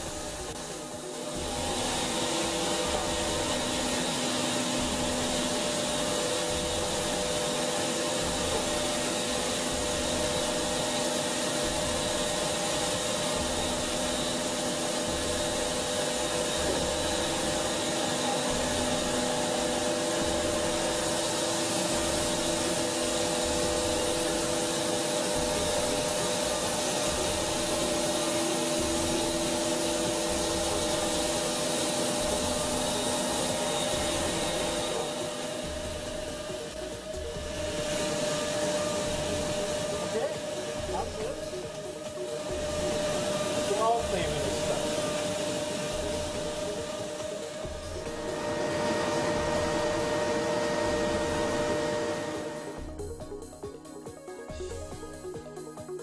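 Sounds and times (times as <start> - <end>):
machining center whirring: 0.0 - 56.0.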